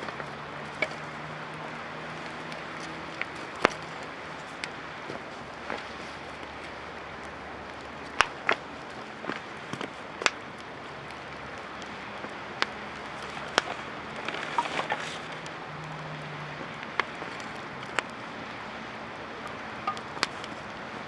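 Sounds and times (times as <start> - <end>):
campfire crackling and popping: 0.0 - 21.0
steady fire hiss: 0.0 - 21.0.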